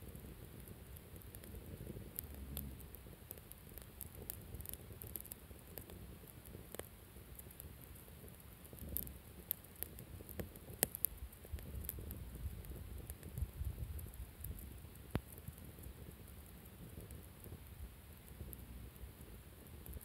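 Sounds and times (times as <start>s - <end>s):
campfire crackling and popping: 0.0s - 20.0s
fire low rumble: 0.0s - 20.0s.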